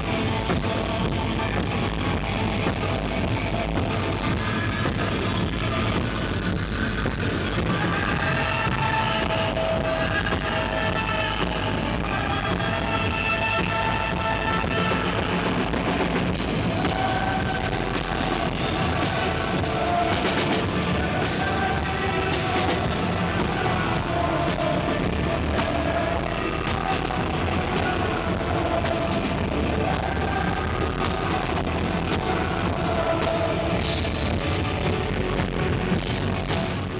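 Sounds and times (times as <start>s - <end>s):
drum kit: 0.0s - 36.9s
electric guitar: 0.0s - 36.9s
person singing: 0.0s - 36.9s.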